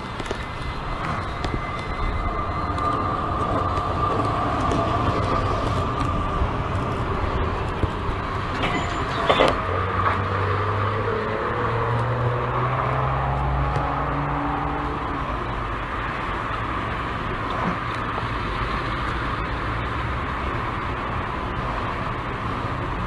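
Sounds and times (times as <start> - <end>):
tram humming: 0.0 - 23.0.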